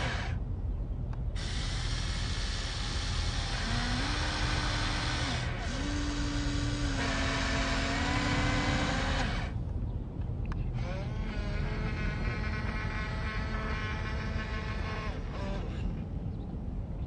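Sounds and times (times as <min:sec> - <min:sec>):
small electric motors whining: 0:00.0 - 0:00.4, 0:01.3 - 0:09.6, 0:10.7 - 0:16.2.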